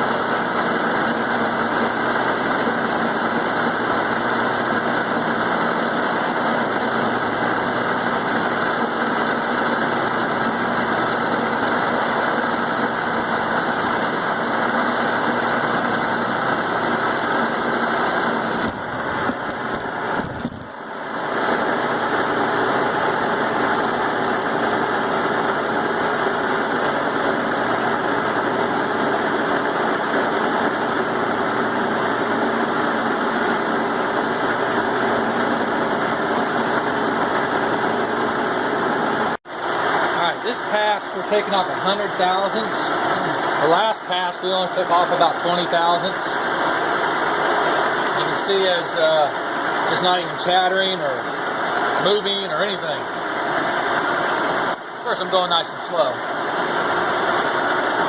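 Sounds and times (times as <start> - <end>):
milling machine cutting steel: 0.0 - 58.0
spindle hum: 0.0 - 58.0.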